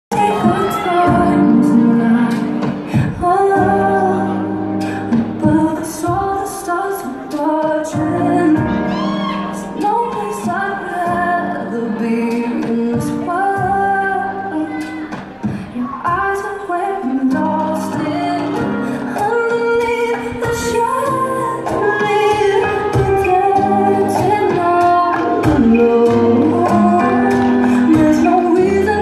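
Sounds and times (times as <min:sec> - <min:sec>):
woman singing: 0:00.1 - 0:29.0.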